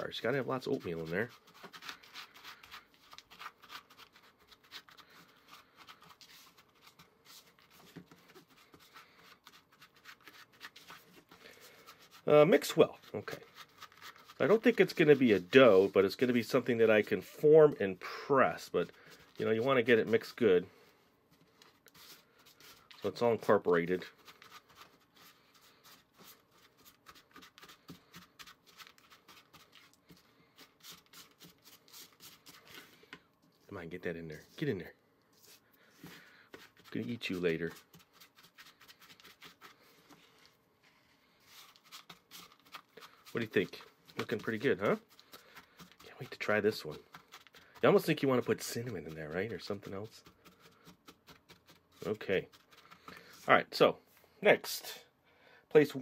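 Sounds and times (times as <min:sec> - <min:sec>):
spatula scratching in plastic bowl: 0:00.0 - 0:20.7, 0:21.3 - 0:33.1, 0:35.4 - 0:40.5, 0:41.4 - 0:53.7.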